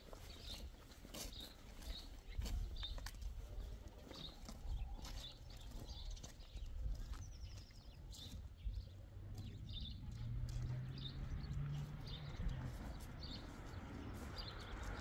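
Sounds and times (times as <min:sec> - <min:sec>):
footsteps on concrete: 0:00.0 - 0:15.0
small birds chirping: 0:00.0 - 0:15.0.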